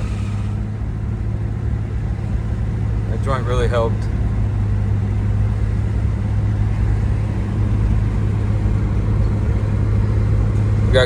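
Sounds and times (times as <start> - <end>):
car engine running while driving: 0.0 - 11.0
road noise: 0.0 - 11.0.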